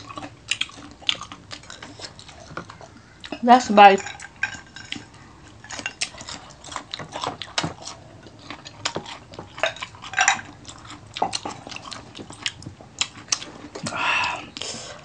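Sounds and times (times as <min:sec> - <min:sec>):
crunchy chewing: 0:00.0 - 0:03.5, 0:04.1 - 0:15.0.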